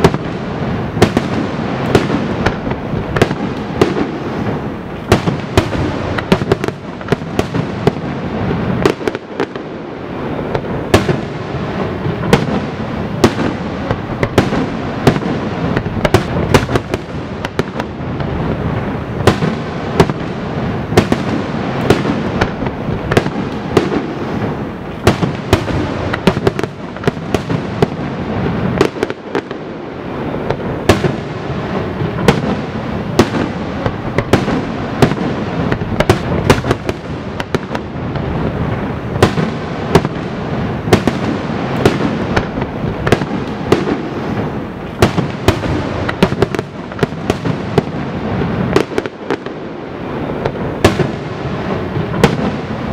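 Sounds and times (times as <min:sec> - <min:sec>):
fireworks bangs and cracks: 0:00.0 - 0:52.9.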